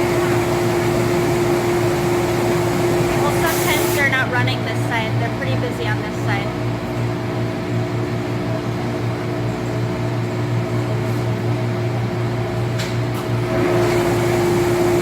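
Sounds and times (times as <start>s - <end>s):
factory machinery humming: 0.0s - 15.0s.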